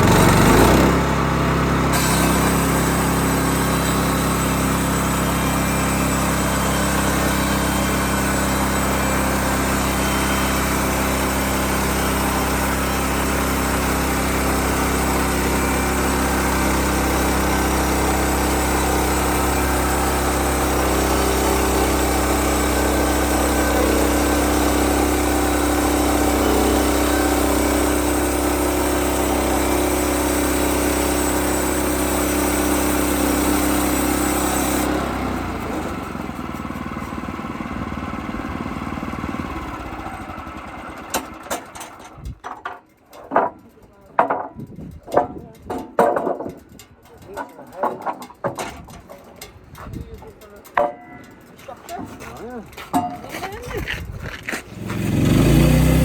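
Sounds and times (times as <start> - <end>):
portable sawmill engine running: 0.0 - 56.0.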